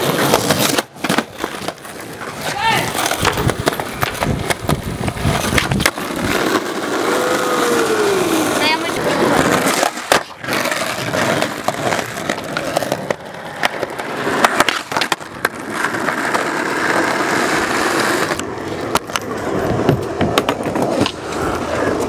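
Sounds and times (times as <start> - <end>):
skateboard clacks: 0.0 - 22.0
skateboard wheels rolling on asphalt: 0.0 - 22.0.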